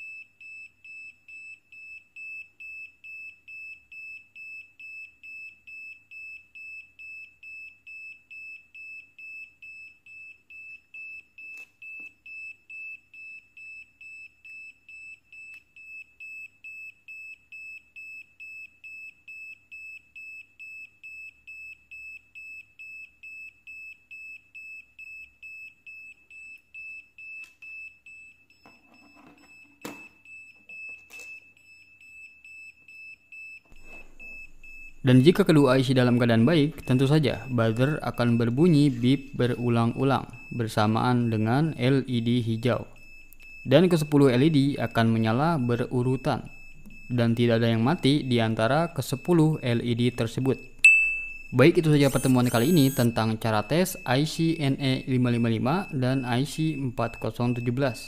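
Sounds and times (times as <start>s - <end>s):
buzzer beeping: 0.0s - 58.0s.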